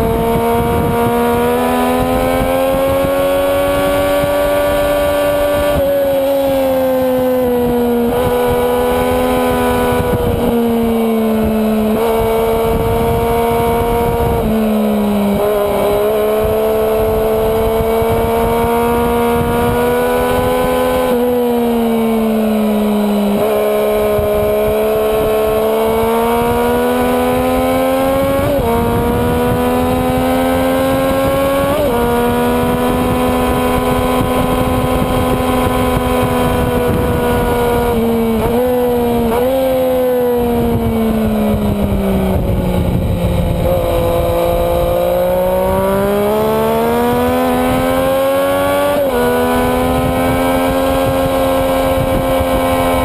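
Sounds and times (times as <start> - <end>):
motorcycle engine revving: 0.0 - 53.0
wind rush on microphone: 0.0 - 53.0.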